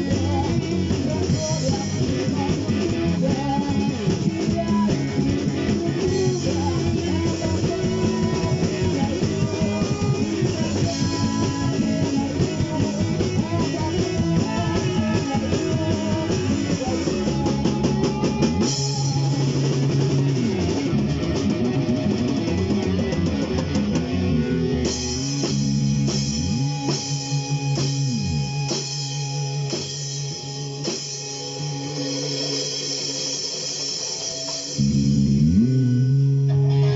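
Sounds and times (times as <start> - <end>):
instrumental rock music: 0.0 - 36.9.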